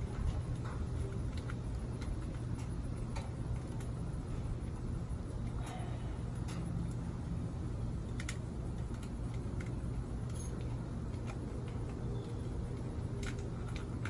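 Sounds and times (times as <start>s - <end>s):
grill parts clicking and rattling: 0.0s - 14.0s
steady low hum: 0.0s - 14.0s.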